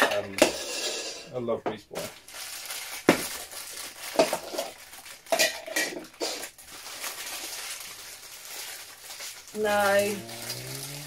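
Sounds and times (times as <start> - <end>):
plastic bags crinkling and tearing: 2.0 - 11.0.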